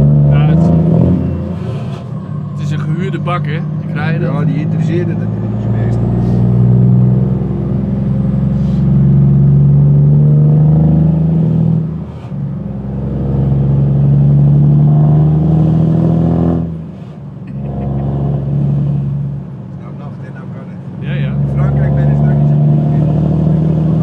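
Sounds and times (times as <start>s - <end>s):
truck diesel engine accelerating: 0.0s - 24.0s.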